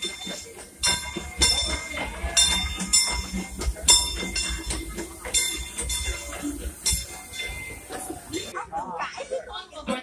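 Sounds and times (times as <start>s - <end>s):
steam hissing bursts: 0.0s - 8.5s
train wheels rumbling on rail: 0.0s - 8.5s.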